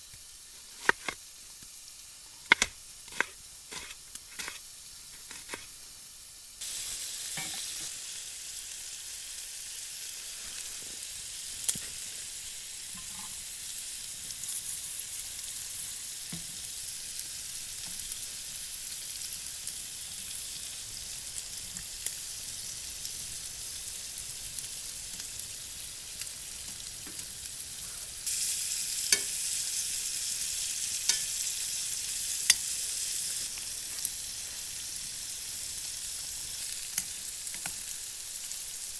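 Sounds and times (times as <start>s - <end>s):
stir-fry sizzling in pan: 0.0s - 38.9s.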